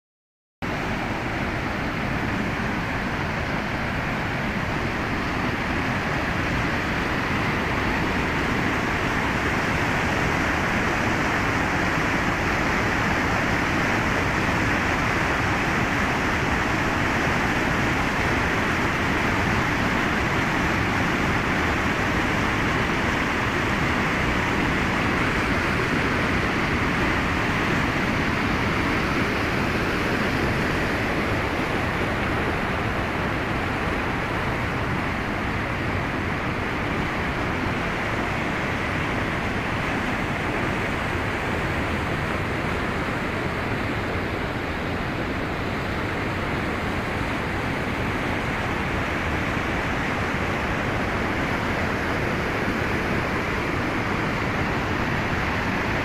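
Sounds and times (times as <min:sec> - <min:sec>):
stream rushing over boulders: 0:00.6 - 0:56.0.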